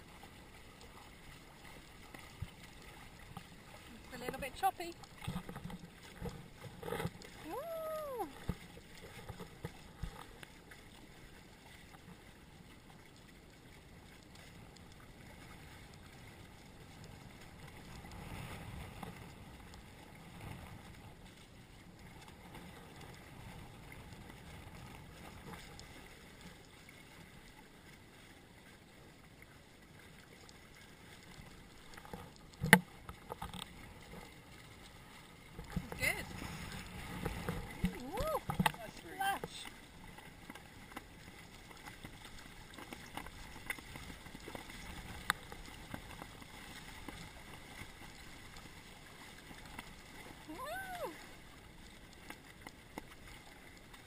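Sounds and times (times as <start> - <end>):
water rushing along boat hulls: 0.0 - 54.0.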